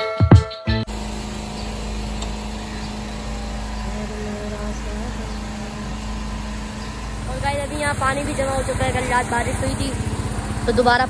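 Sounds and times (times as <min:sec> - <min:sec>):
vehicle engine running: 0:00.8 - 0:11.0.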